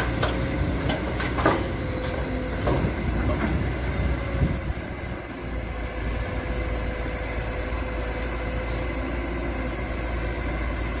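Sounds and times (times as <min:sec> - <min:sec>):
excavator diesel engine rumbling: 0:00.0 - 0:11.0.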